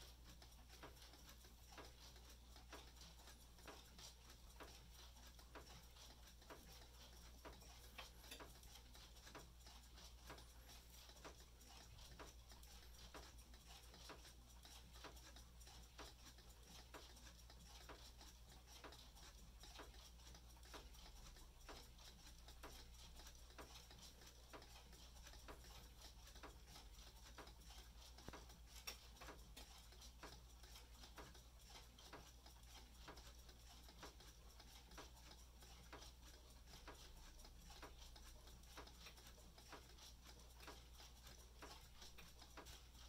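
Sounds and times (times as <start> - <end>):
wall clock ticking: 0.0 - 43.0.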